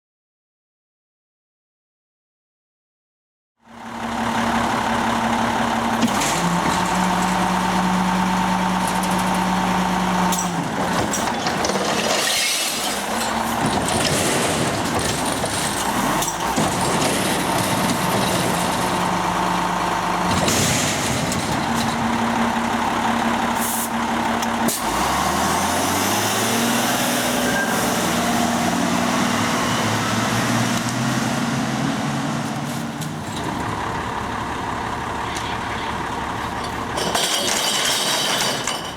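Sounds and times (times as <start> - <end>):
truck engine running: 3.7 - 11.8, 13.0 - 37.2.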